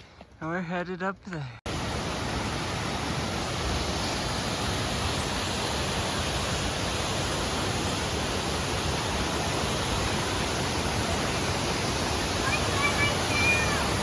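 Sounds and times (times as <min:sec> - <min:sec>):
falling water rushing: 0:01.7 - 0:14.0.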